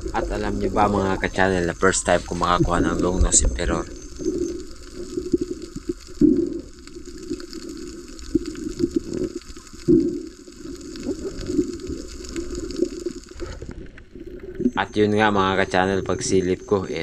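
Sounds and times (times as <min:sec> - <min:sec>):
muffled underwater gurgling: 0:00.0 - 0:17.0.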